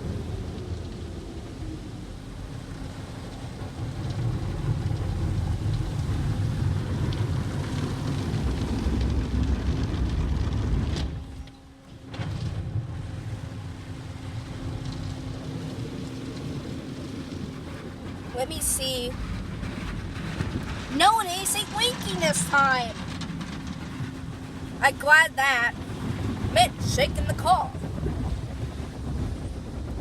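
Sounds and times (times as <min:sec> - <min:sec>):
car wash spray and machinery: 0:00.0 - 0:30.0.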